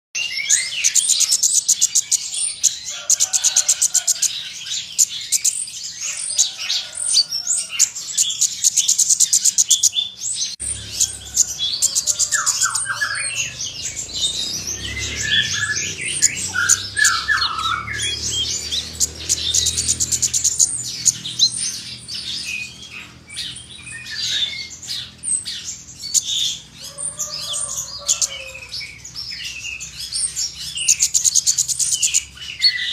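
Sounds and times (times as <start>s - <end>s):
songbird trilling and singing: 0.2s - 32.9s.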